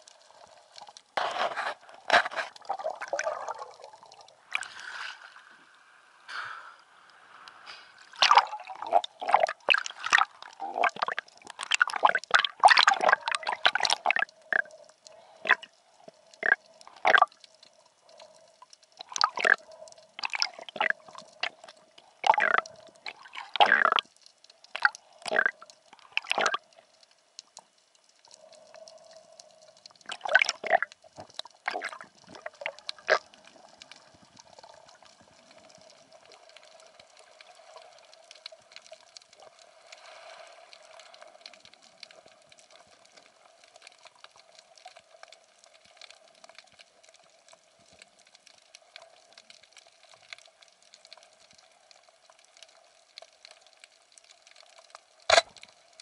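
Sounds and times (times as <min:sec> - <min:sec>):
faint steady hum: 0:00.0 - 0:56.0
sea water gurgling and splashing: 0:00.0 - 0:56.0.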